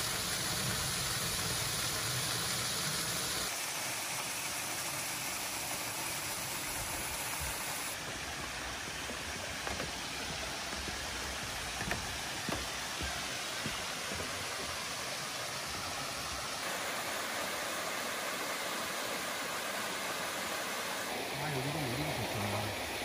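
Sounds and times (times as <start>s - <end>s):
waterfall rushing over rocks: 0.0s - 23.0s.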